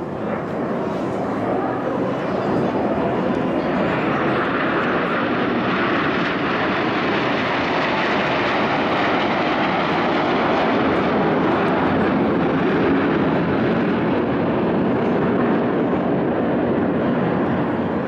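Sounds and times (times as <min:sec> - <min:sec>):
jet engine rushing: 0:00.0 - 0:18.0.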